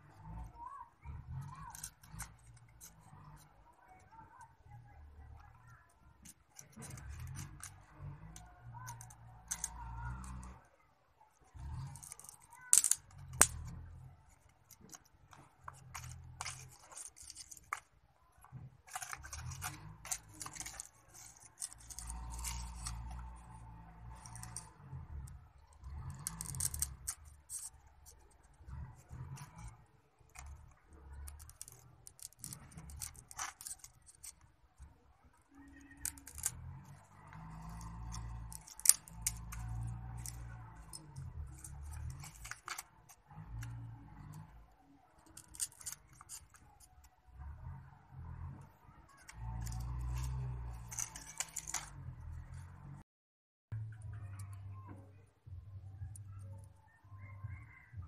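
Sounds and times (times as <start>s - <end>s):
bamboo sticks clicking and scraping: 0.0s - 10.6s, 11.4s - 53.0s.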